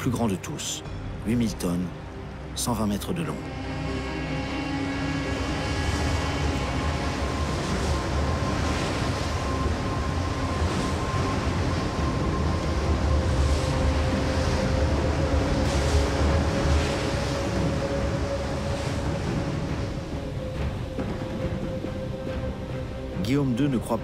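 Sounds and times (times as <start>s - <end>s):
ship engines rumbling: 0.0s - 24.0s
water washing: 3.4s - 24.0s.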